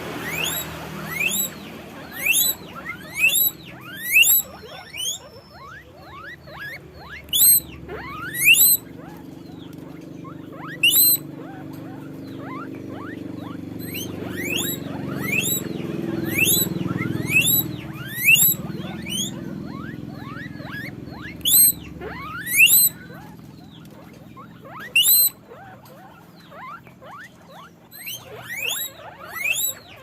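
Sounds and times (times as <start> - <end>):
guinea pig squeaking: 0.0 - 30.0.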